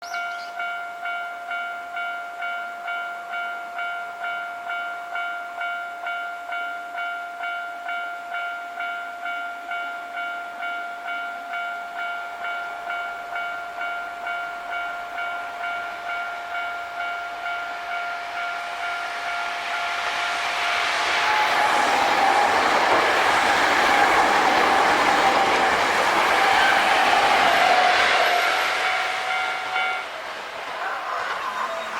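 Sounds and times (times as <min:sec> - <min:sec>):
level-crossing warning bell: 0:00.0 - 0:30.2
approaching train: 0:00.0 - 0:31.9.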